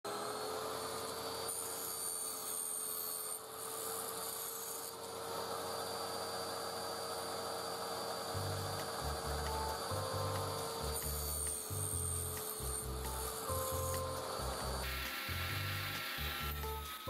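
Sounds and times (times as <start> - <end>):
saw blade cutting plywood: 0.1 - 17.0
table saw motor humming: 0.1 - 17.0.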